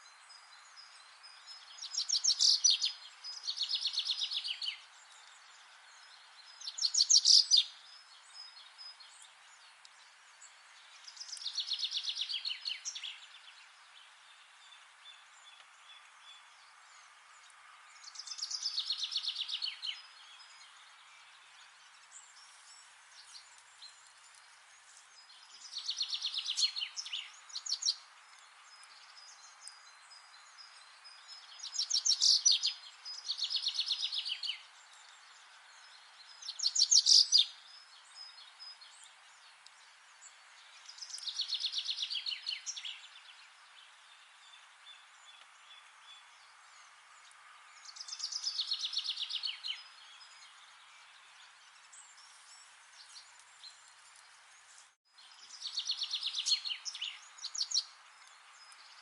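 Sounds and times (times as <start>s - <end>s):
outdoor hiss: 0.0s - 59.0s
songbird singing trilled phrases: 0.1s - 17.2s, 17.9s - 53.9s, 54.5s - 59.0s.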